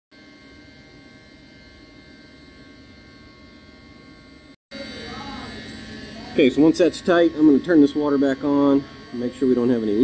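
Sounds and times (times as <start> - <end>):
machinery hum: 0.2 - 10.0
whining tones: 0.2 - 10.0.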